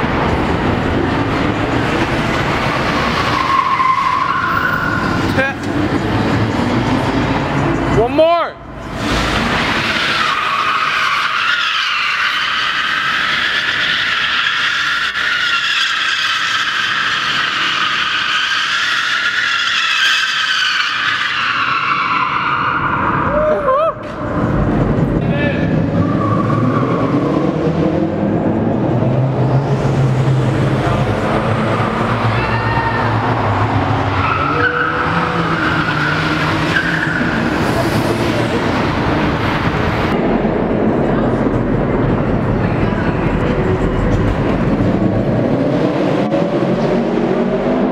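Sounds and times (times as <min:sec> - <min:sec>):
car tyres squealing: 0:00.0 - 0:40.2
car engine drone under load: 0:00.0 - 0:47.9.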